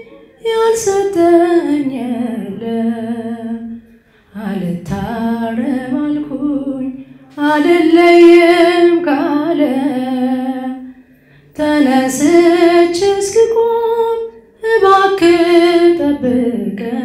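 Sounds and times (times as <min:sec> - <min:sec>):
woman singing a hymn solo: 0:00.0 - 0:10.9, 0:11.6 - 0:17.0.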